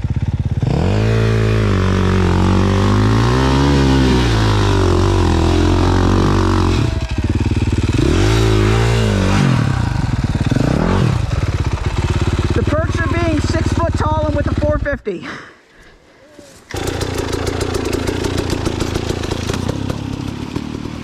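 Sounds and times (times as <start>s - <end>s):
dirt bike engine revving: 0.0s - 14.9s, 16.7s - 21.0s.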